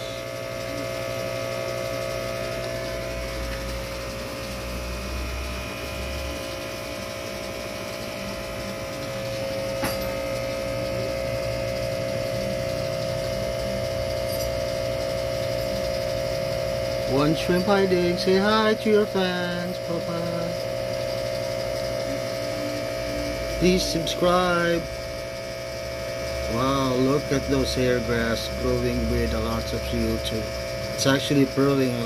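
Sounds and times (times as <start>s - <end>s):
aquarium pump humming: 0.0s - 32.0s.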